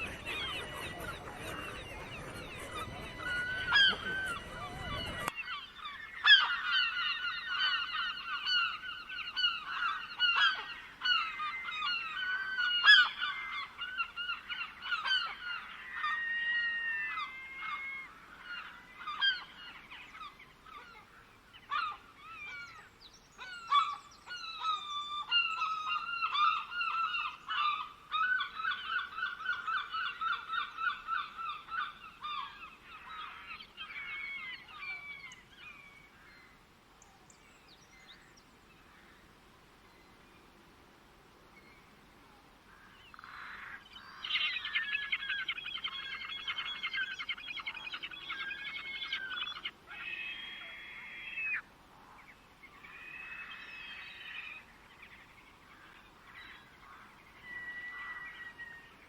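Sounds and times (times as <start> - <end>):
birds calling: 0.0 - 39.3, 42.7 - 59.0.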